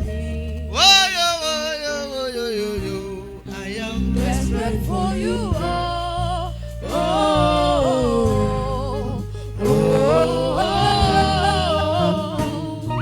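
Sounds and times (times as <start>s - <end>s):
instrumental backing: 0.0s - 13.0s
person singing gospel song: 0.7s - 13.0s.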